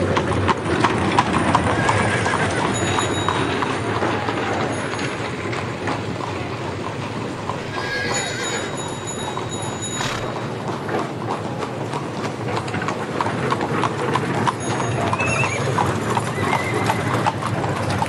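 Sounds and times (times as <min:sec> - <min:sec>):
horse hooves clip-clopping: 0:00.0 - 0:18.0.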